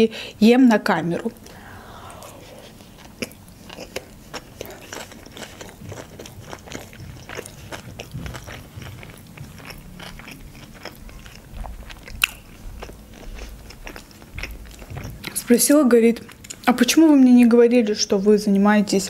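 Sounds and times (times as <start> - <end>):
chewing food: 1.3 - 17.2.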